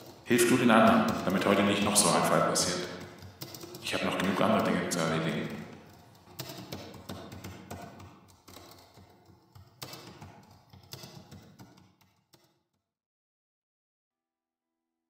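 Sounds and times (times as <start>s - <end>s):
laptop keyboard typing: 0.0s - 12.5s.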